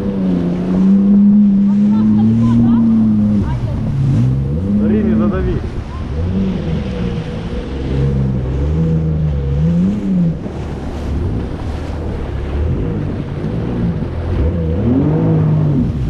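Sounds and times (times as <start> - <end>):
jet ski engine running: 0.0 - 16.0
wind and water spray rushing: 0.0 - 16.0.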